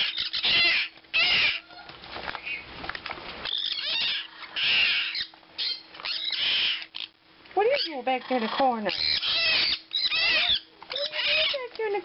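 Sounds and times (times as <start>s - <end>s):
baby conures squawking: 0.0s - 2.7s, 3.4s - 11.8s.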